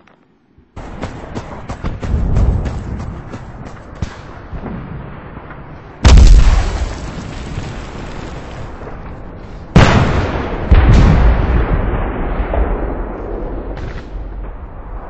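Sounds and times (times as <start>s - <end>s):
explosions with low rumble: 0.8s - 15.0s.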